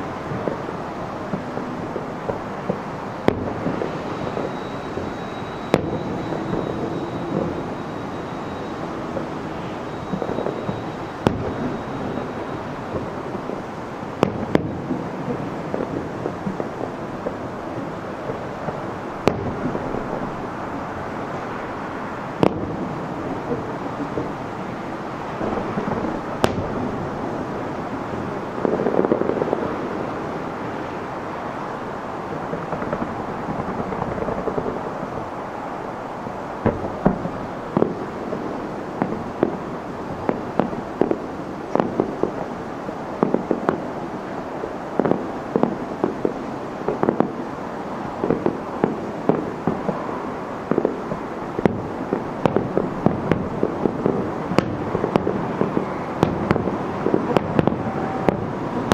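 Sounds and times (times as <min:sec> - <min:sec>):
fireworks popping: 0:00.0 - 0:35.7, 0:36.5 - 0:58.9
distant firework bangs: 0:00.3 - 0:20.6, 0:22.4 - 0:30.6, 0:36.6 - 0:42.6, 0:43.2 - 0:47.4, 0:48.1 - 0:58.9.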